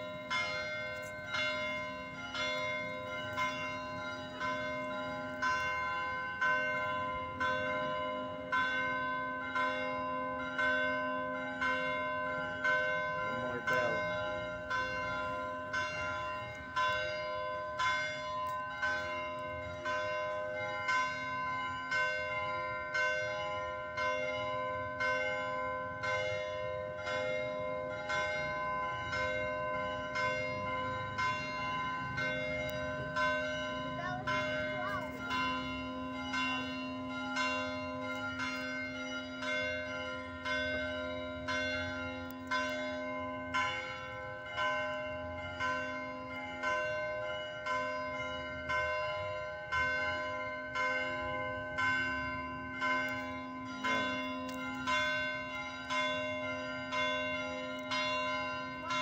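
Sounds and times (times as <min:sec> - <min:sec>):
church bell tolling: 0:00.0 - 0:59.0.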